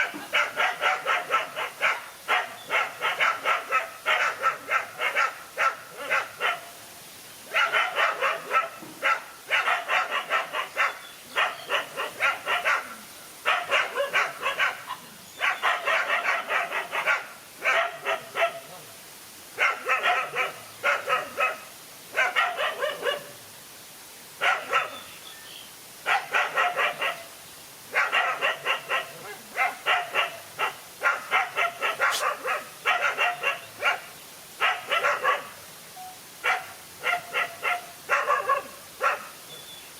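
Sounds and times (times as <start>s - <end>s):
dogs barking: 0.0s - 6.7s, 7.5s - 18.8s, 19.6s - 23.4s, 24.4s - 25.0s, 26.0s - 27.3s, 27.9s - 35.6s, 36.4s - 39.4s.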